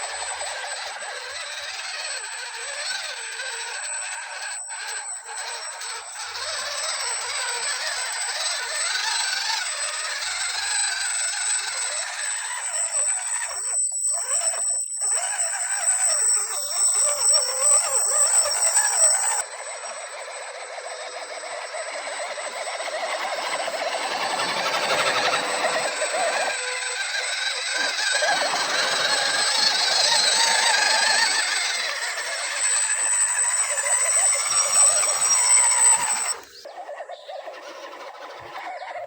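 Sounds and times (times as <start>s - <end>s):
gear and tyre noise: 0.0s - 39.0s
rc car motor whining: 0.0s - 39.0s.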